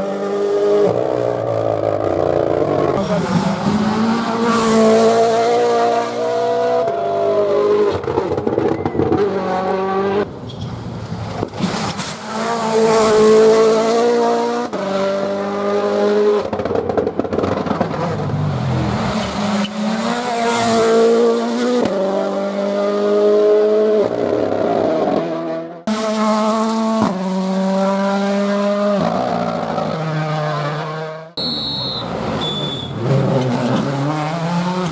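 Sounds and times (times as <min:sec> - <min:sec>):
rally car engines revving: 0:00.0 - 0:34.9.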